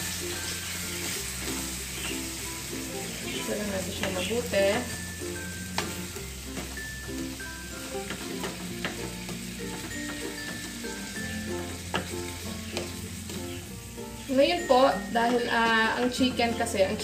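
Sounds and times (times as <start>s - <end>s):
meat sizzling in a frying pan: 0.0s - 17.0s
soft background music: 0.0s - 17.0s.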